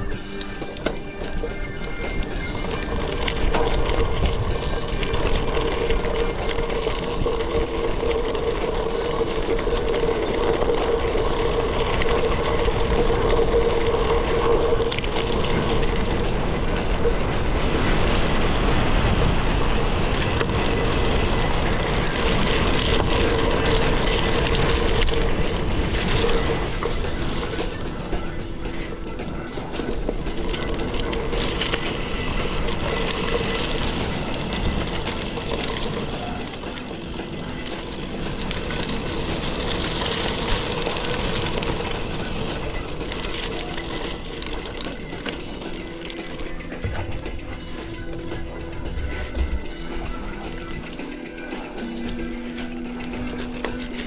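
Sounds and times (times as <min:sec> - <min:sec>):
bike rattling: 0:00.0 - 0:54.0
bike tyres rumbling on gravel: 0:00.0 - 0:54.0.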